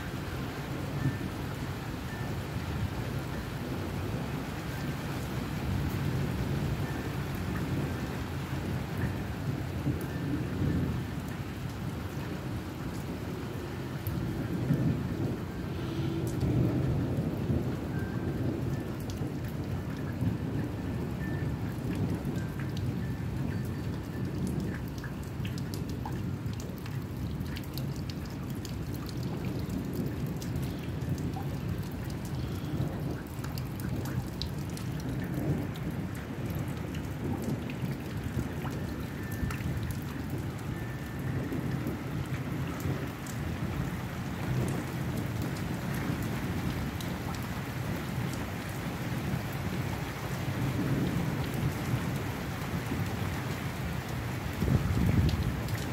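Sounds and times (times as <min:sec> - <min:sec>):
steady rain: 0:00.0 - 0:55.9
low rumble of thunder: 0:00.1 - 0:55.9
raindrops ticking: 0:00.2 - 0:02.6, 0:03.2 - 0:55.9.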